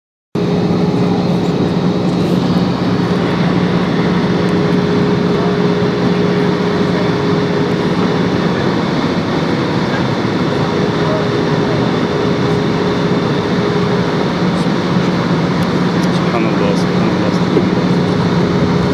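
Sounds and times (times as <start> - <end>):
engine and airflow rush: 0.4 - 18.9
steady cabin hum: 0.4 - 18.9.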